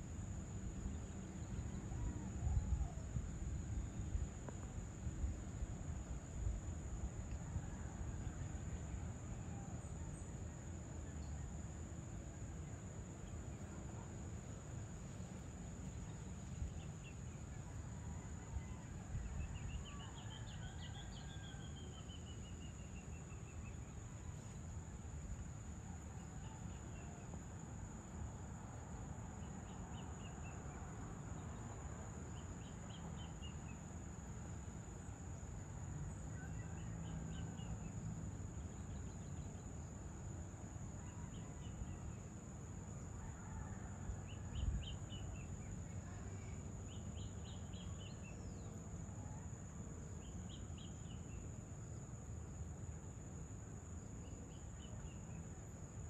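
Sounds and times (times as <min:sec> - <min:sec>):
insect drone: 0:00.0 - 0:56.0.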